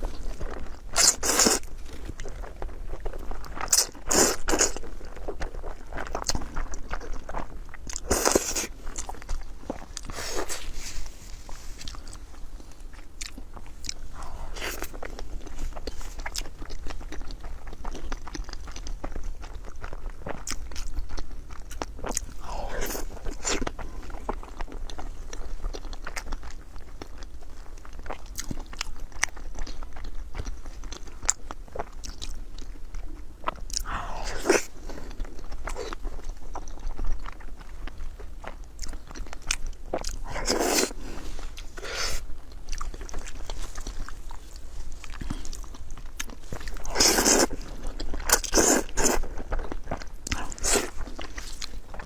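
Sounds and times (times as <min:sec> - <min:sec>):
person chewing and crunching food: 0:00.0 - 0:52.0.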